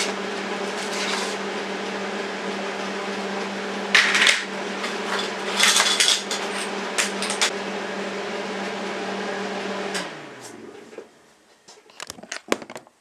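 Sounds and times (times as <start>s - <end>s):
electric metalworking tool humming: 0.0s - 11.4s
machine winding down: 0.0s - 11.4s.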